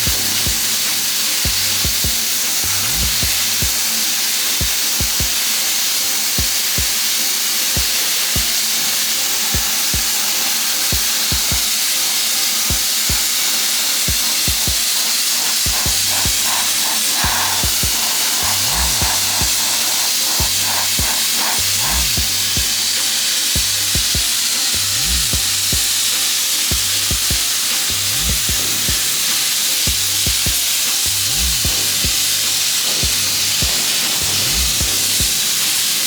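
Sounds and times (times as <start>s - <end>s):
music with deep bass beat: 0.0s - 36.0s
sandblaster nozzle hissing: 0.0s - 36.0s.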